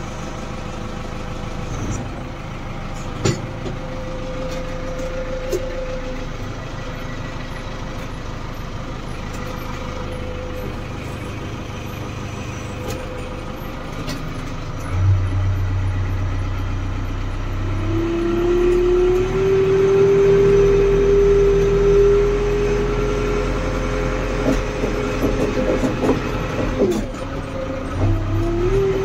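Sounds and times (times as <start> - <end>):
diesel engine running: 0.0 - 29.0
steady engine whine: 0.0 - 29.0.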